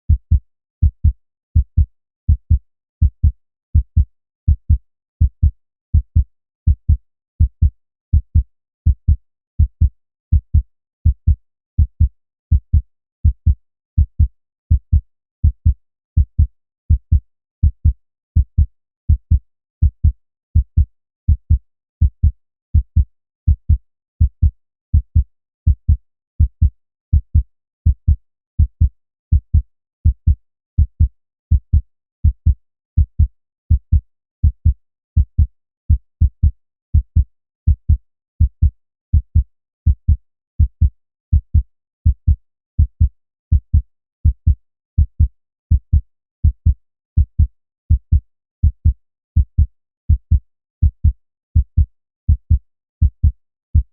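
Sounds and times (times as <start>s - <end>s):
human heartbeat: 0.1s - 53.9s.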